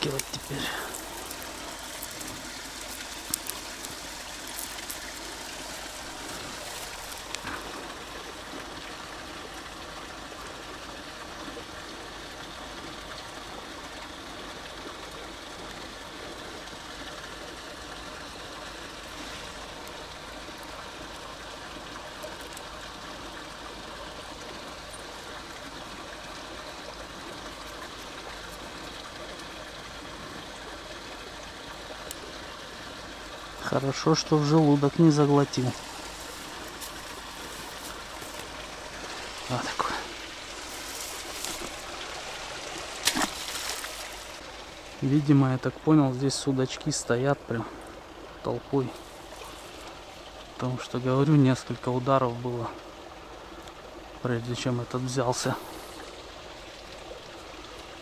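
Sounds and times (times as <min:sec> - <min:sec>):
stream water running: 0:00.0 - 0:58.0.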